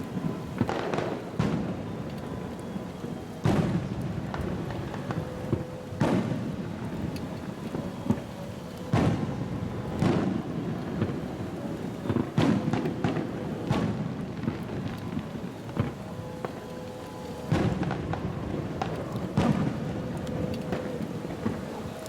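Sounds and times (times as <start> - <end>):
fireworks booming: 0.0 - 22.0
fireworks crackle: 0.0 - 22.0.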